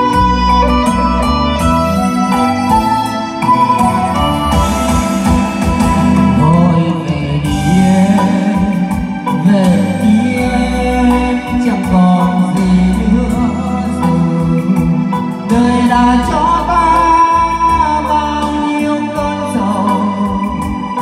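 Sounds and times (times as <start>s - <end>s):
heavy bass line: 0.0s - 21.0s
loud music over speakers: 0.0s - 21.0s.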